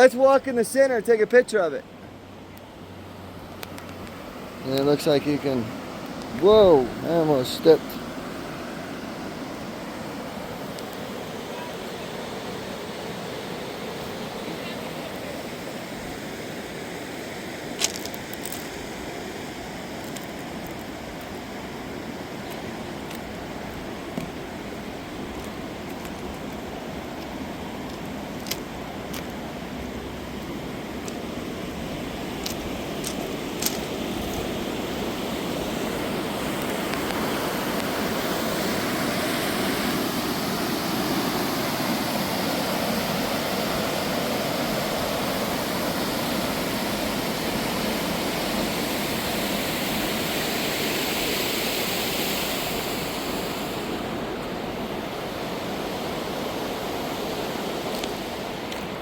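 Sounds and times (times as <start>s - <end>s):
river rapids rushing: 0.0s - 21.2s, 21.9s - 59.0s.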